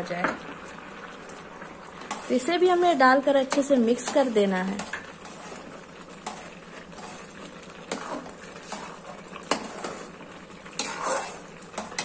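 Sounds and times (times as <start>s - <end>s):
metal spatula scraping a pan: 2.0s - 12.0s.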